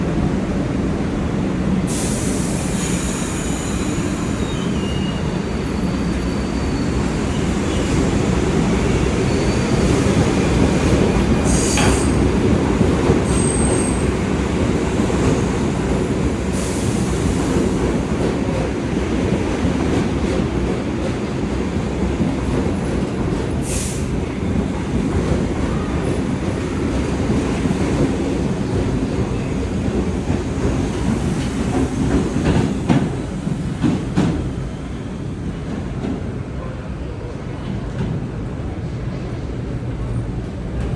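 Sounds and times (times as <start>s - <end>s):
subway train rumble: 0.0s - 40.9s.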